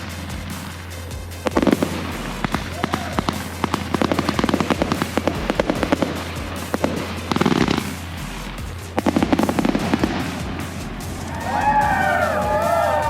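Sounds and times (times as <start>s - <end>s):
fireworks popping and crackling: 0.0s - 11.8s
music playing: 0.0s - 13.0s.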